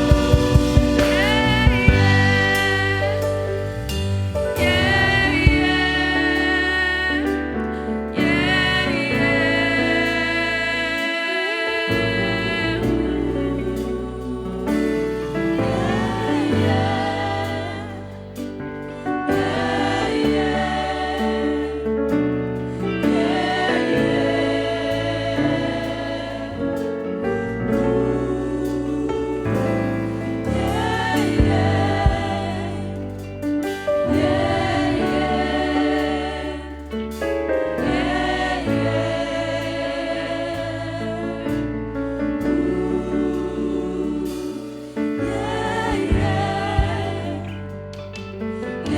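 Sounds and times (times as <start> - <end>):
bass: 0.0 - 48.9
choir singing with vibrato: 0.0 - 48.9
keyboard chords: 0.0 - 48.9.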